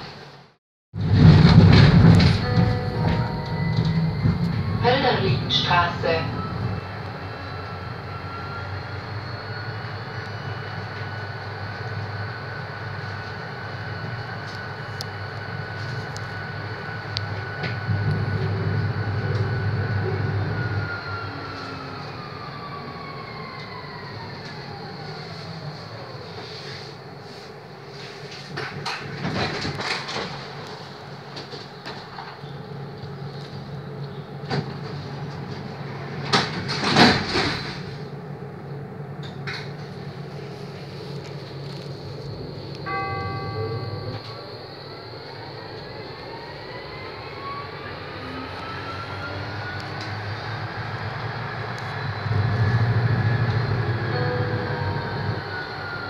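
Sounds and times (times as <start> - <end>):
tram rumbling on rails: 0.0 - 56.0.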